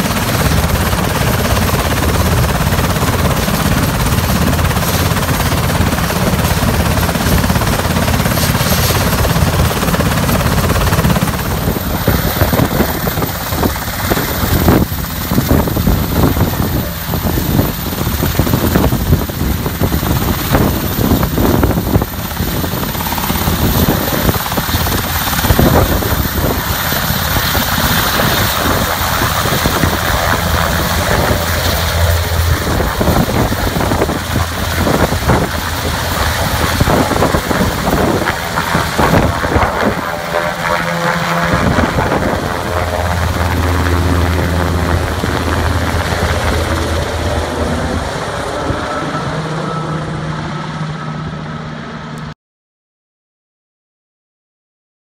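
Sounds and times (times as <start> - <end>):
helicopter rotor beating: 0.0 - 52.3
turbine engines running: 0.0 - 52.3.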